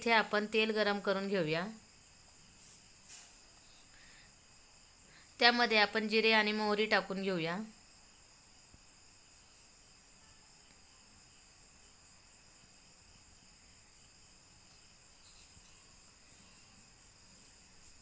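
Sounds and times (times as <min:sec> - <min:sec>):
faint high-pitched hum: 0:00.0 - 0:18.0.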